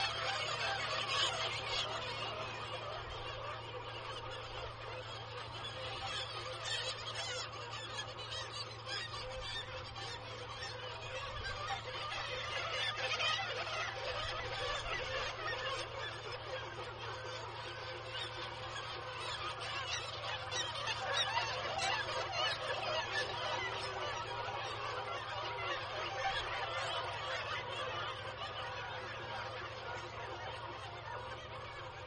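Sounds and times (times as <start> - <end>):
seabird colony calling: 0.0 - 32.0.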